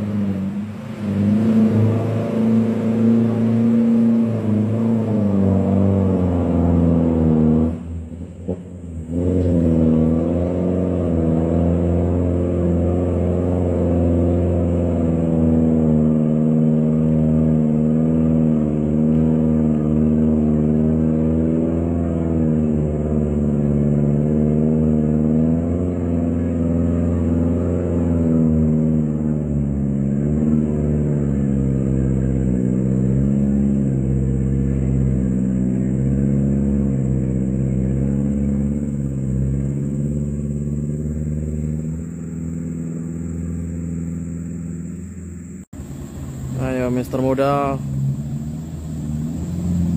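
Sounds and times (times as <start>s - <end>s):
truck diesel engine labouring: 0.0s - 49.9s.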